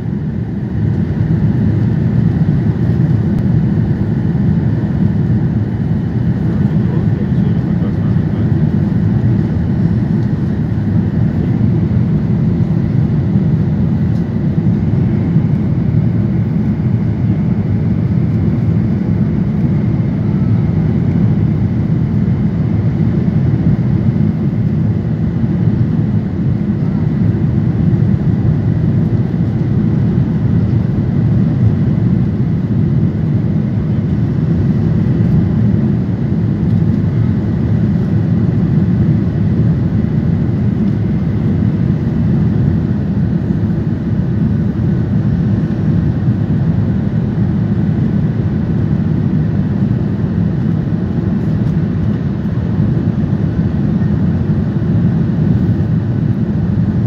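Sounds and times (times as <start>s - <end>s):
jet engine cabin rumble: 0.0s - 57.0s.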